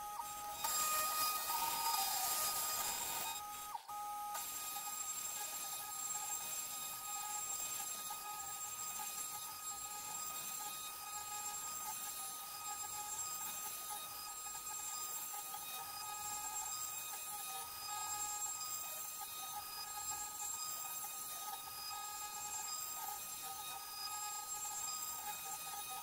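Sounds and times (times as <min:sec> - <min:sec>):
router spindle motor whining: 0:00.0 - 0:26.0.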